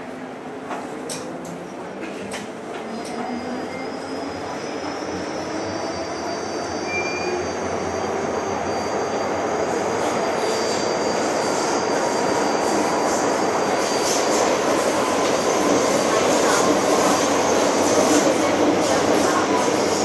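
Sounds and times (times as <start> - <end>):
metro train wheels on rail: 0.0 - 20.0.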